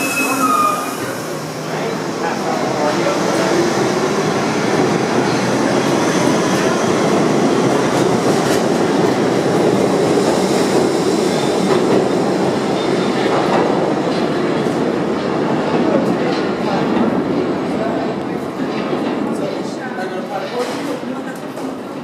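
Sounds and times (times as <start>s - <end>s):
subway train wheels rumbling on rail: 0.0s - 22.0s.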